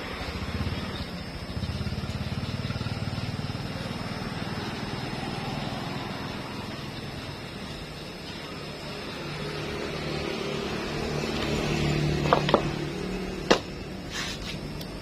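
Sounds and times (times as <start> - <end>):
small engine running: 0.0 - 13.5.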